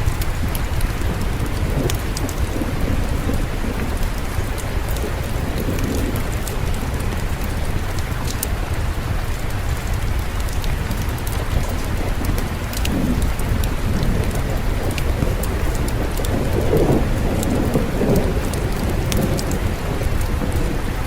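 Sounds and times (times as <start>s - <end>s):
distant thunder rumble: 0.0s - 21.0s
fireplace crackles: 0.0s - 21.0s
steady rain: 0.0s - 21.0s.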